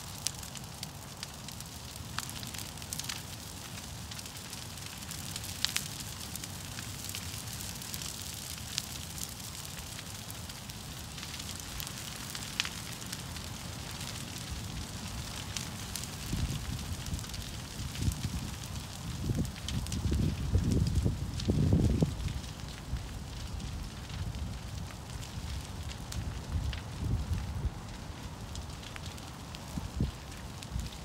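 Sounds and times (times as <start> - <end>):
fire hissing: 0.0 - 31.0
fire popping and crackling: 0.0 - 31.0
low rumble of flames: 0.0 - 31.0.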